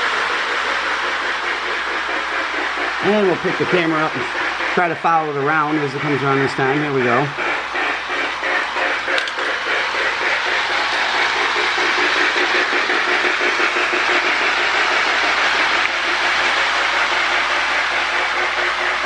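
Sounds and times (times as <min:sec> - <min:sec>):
electric motor humming: 0:00.0 - 0:19.0
toy train wheels clattering on rails: 0:00.0 - 0:19.0.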